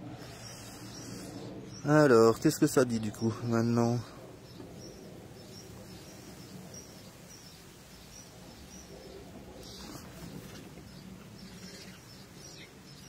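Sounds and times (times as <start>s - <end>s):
bird chirping: 0.0s - 13.0s
faint outdoor background noise: 0.0s - 13.0s.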